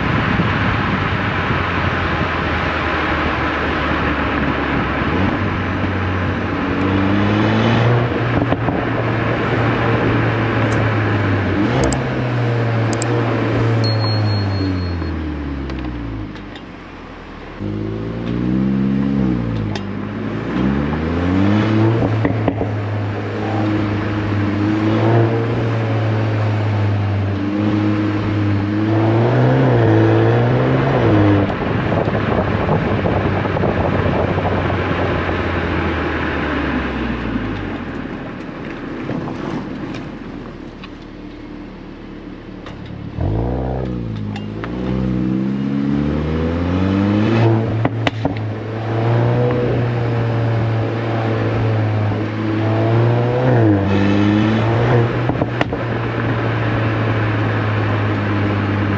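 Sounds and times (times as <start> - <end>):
car engine accelerating: 0.0 - 58.9
rushing exhaust noise: 0.0 - 58.9.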